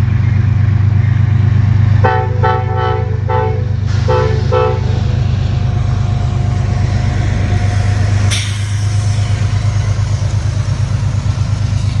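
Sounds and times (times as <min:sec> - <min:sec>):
diesel locomotive engine hum: 0:00.0 - 0:12.0
train noise: 0:00.0 - 0:12.0.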